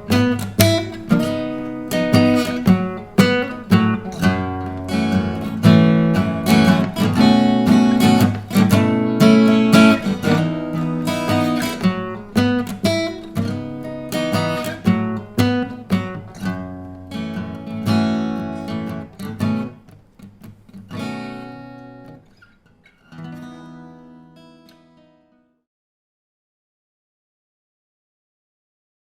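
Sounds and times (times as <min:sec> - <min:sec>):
acoustic guitar strummed and picked: 0:00.0 - 0:25.6.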